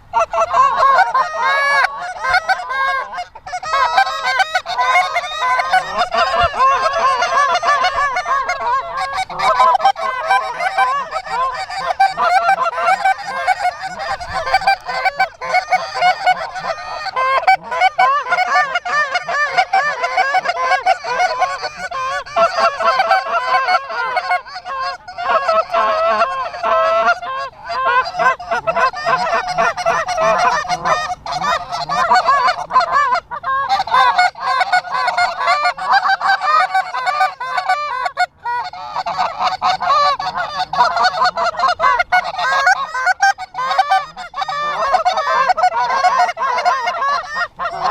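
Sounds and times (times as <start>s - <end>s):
geese honking: 0.0s - 47.9s.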